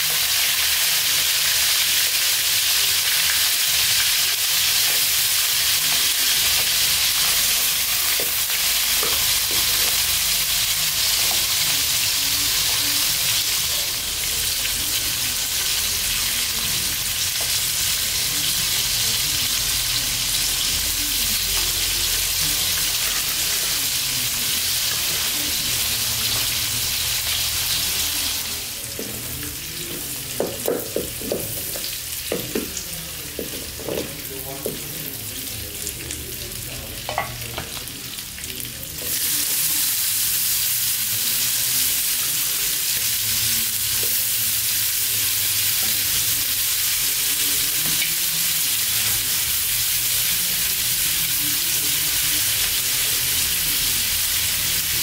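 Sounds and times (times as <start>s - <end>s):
oil sizzling in a wok: 0.0s - 34.8s, 35.5s - 55.0s.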